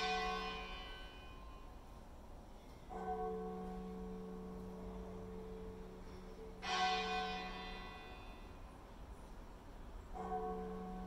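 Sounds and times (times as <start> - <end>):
church bells tolling: 0.0 - 9.3, 10.0 - 11.0.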